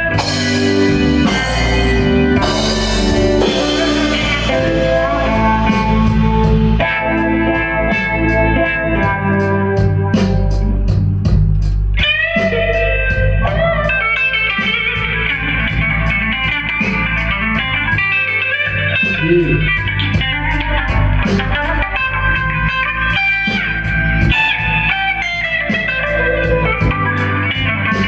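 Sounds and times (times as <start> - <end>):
bass guitar: 0.0 - 28.0
drums with cymbal beat: 0.0 - 28.0
electric guitar lead: 0.0 - 28.0.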